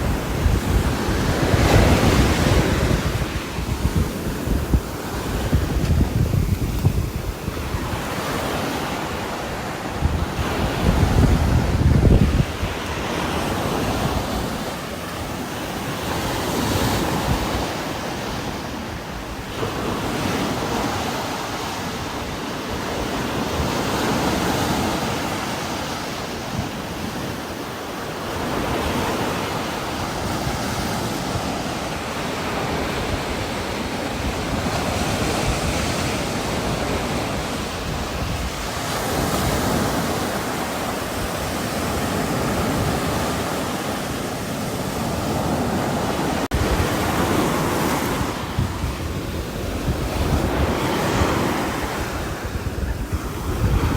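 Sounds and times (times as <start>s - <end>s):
wind gusting through trees: 0.0s - 53.9s.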